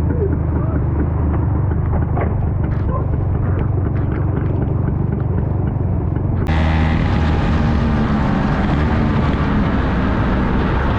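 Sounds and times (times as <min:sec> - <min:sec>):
car engine rumbling: 0:00.0 - 0:10.9.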